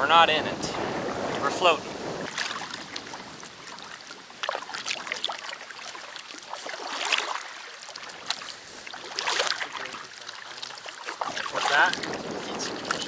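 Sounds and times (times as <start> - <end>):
kayak paddles splashing: 0.0 - 13.0
water trickling off paddle: 0.0 - 13.0.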